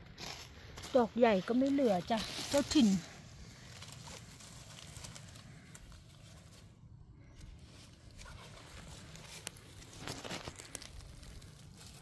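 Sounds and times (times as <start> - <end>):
rustling of dry leaves and twigs: 0.0 - 12.0.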